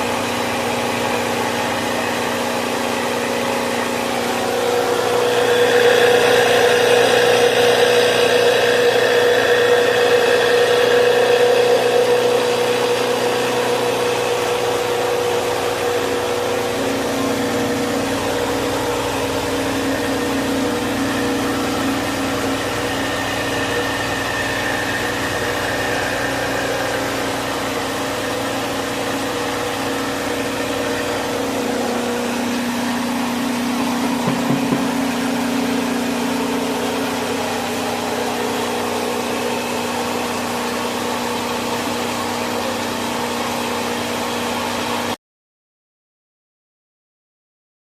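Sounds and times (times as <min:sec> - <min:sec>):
rice mill machine humming: 0:00.0 - 0:45.2.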